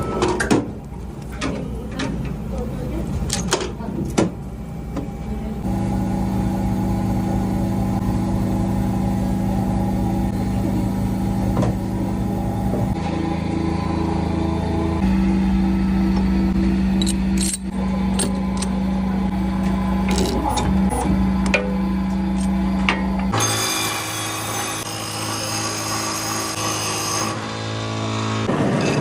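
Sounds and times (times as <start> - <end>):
motor humming: 4.6 - 29.0.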